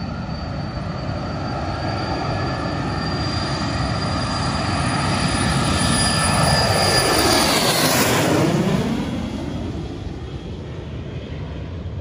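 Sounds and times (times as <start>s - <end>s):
aircraft taking off: 0.0s - 12.0s.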